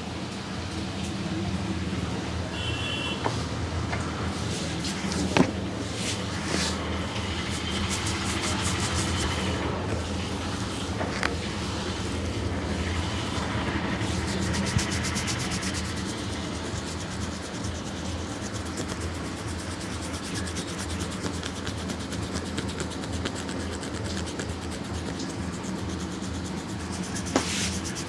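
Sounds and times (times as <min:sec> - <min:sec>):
hands rubbing hair and scalp: 0:04.4 - 0:28.0.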